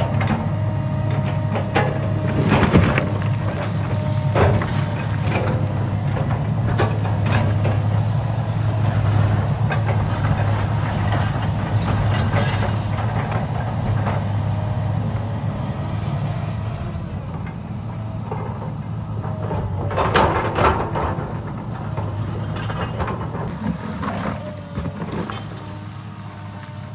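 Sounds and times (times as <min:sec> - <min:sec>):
heavy machinery engine humming: 0:00.0 - 0:26.9.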